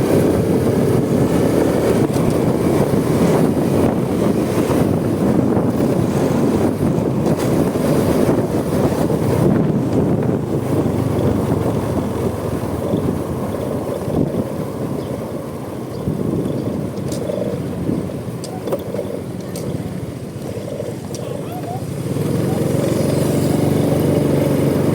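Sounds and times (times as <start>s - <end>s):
motorcycle engine: 0.0s - 24.9s
wind buffeting microphone: 0.0s - 24.9s.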